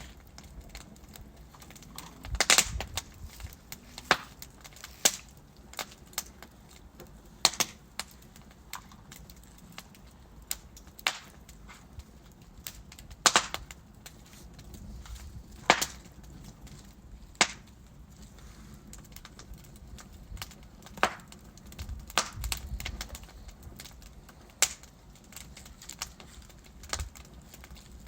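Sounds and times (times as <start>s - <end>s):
burning logs popping and snapping: 0.0s - 28.0s
low rumble of flames: 0.0s - 28.0s.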